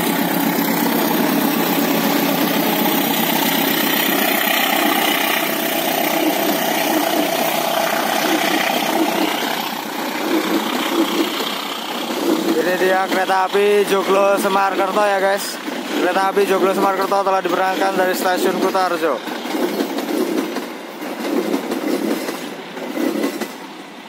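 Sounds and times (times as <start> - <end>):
diesel locomotive passing: 0.0 - 24.0
train coaches rolling on rails: 0.0 - 24.0.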